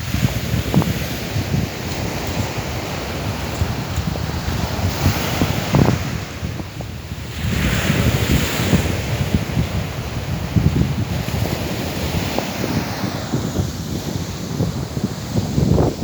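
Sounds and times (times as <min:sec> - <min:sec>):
sea surf: 0:00.0 - 0:16.0
wave washing in: 0:00.0 - 0:16.0
wind buffeting microphone: 0:00.0 - 0:16.0.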